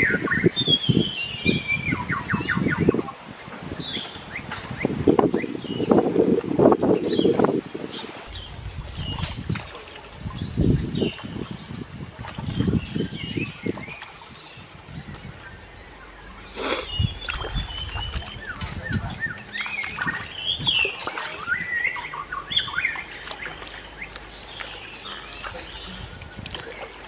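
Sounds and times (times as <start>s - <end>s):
birds chirping: 0.0s - 6.2s, 6.8s - 27.0s
river water splashing and dripping: 0.0s - 27.0s.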